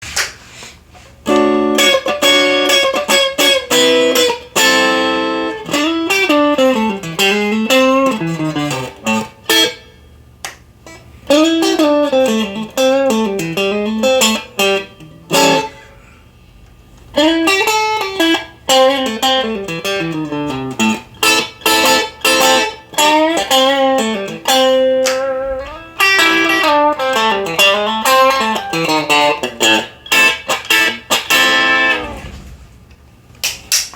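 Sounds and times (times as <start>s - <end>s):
amplified electric guitar: 1.2s - 9.9s, 10.8s - 15.8s, 17.2s - 32.6s.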